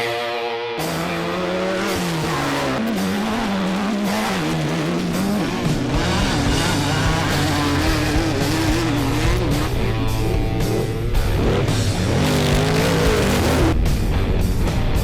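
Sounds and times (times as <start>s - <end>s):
engine revving hard: 0.0s - 14.0s.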